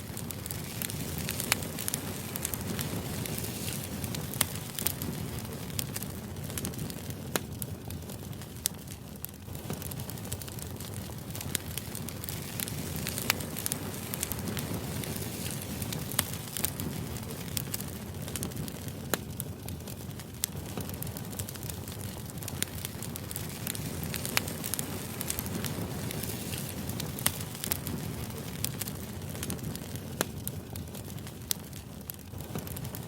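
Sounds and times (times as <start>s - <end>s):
fire crackling and popping: 0.0s - 33.0s
fire low rumble: 0.0s - 33.0s.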